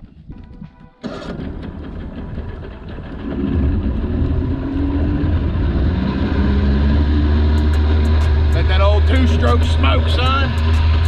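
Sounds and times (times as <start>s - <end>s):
two-stroke outboard motor running: 1.0s - 11.0s.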